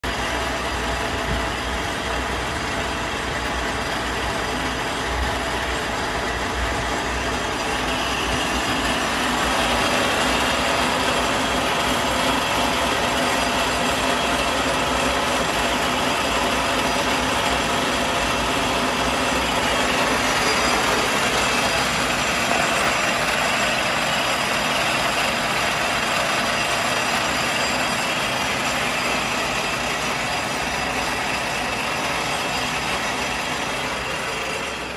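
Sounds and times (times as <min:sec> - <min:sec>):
screw machine running: 0:00.0 - 0:34.9.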